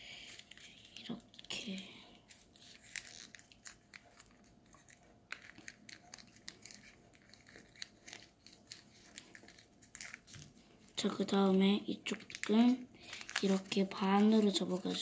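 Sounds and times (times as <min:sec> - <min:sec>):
paper crinkling and creasing: 0:00.2 - 0:15.0.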